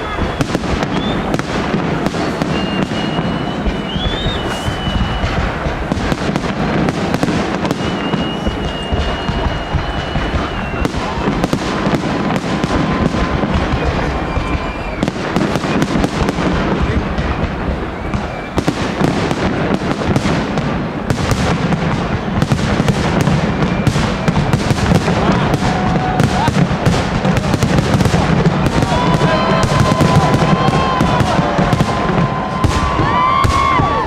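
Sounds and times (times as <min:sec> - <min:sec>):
fireworks bangs and crackles: 0:00.0 - 0:34.0
fireworks whistling: 0:00.0 - 0:34.0.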